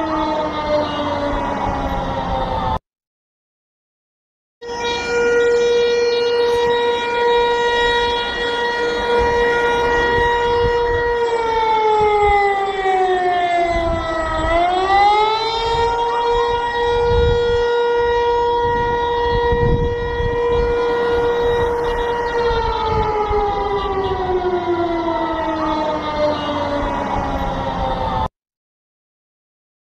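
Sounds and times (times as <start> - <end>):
emergency siren steady buzzy tone: 0.0 - 2.8, 4.6 - 28.3.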